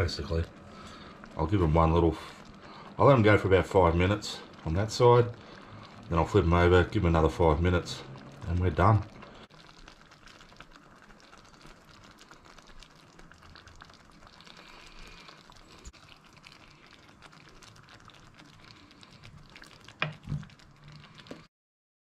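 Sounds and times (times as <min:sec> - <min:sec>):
gravy bubbling in frying pan: 0:00.0 - 0:21.5.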